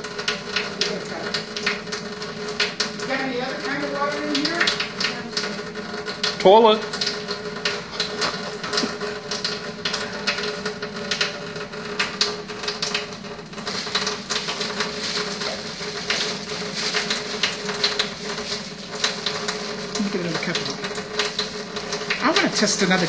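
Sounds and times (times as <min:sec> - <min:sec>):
water stream spattering into sink: 0:00.0 - 0:23.0.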